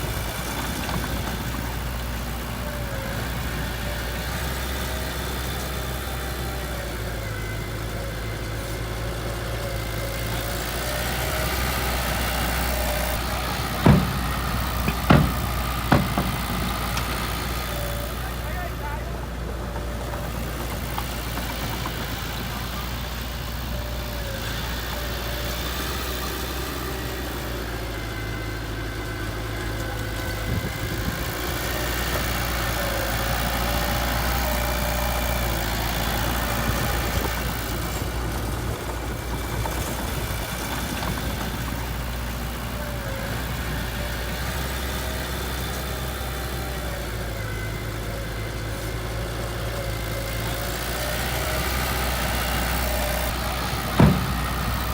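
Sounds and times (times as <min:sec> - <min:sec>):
heavy diesel engine idling: 0:00.0 - 0:54.9.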